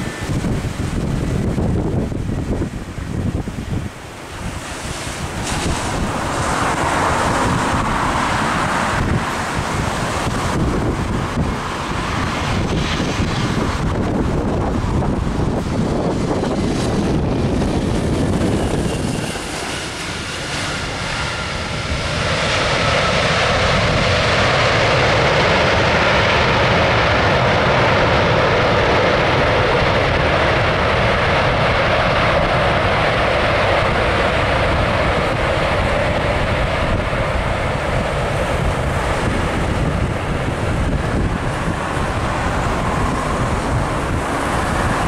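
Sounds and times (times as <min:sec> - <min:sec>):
faint jet engine whine: 0:00.0 - 0:45.0
jet engines reverse thrust roar: 0:00.0 - 0:45.0.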